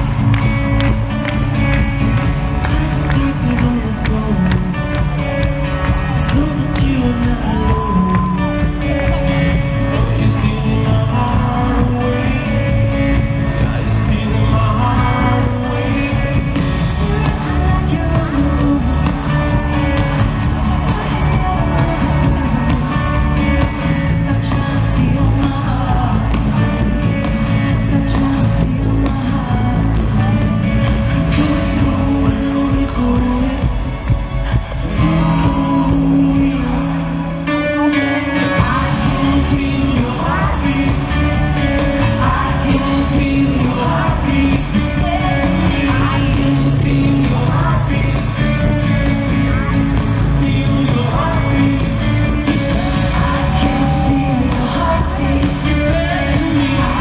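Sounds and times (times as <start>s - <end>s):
lead vocal singing: 0.0s - 57.0s
live band playing pop music: 0.0s - 57.0s.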